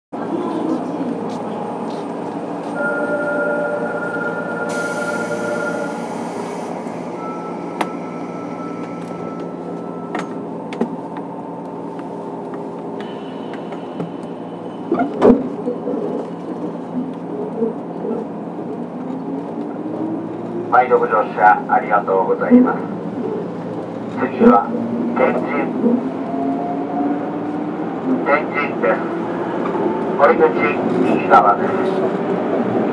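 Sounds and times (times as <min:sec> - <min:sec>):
train motors and wheels rumbling: 0:00.2 - 0:32.9.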